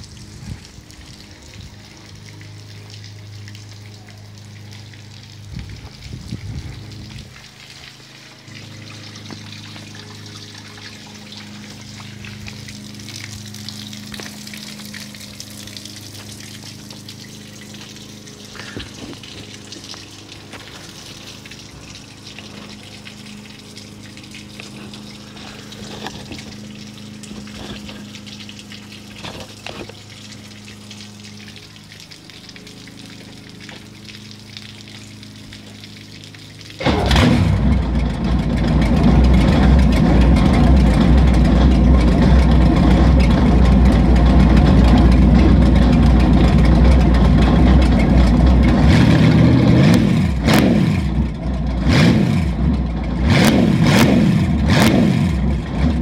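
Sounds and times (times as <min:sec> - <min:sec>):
low hum: 0:00.0 - 0:56.0
water splashing onto pavement: 0:00.0 - 0:56.0.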